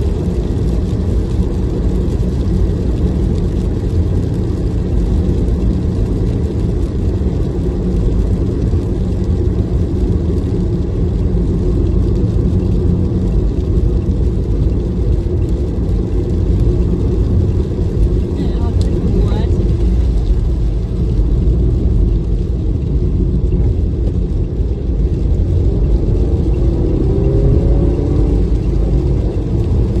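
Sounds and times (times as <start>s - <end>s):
car engine rumble: 0.0s - 30.0s.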